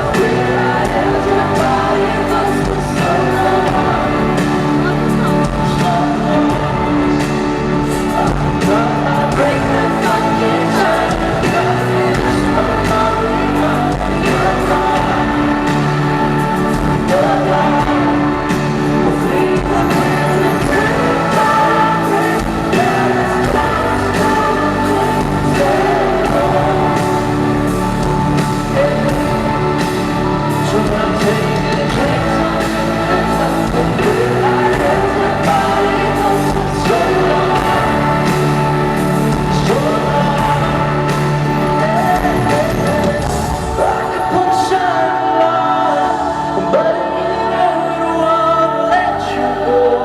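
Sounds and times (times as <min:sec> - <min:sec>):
live pop band playing: 0:00.0 - 0:50.0
person singing long notes: 0:00.0 - 0:50.0.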